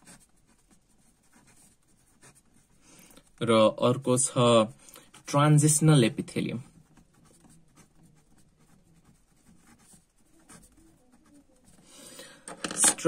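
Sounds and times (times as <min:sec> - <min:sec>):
marker pen writing on paper: 0:00.0 - 0:03.4, 0:05.0 - 0:13.0.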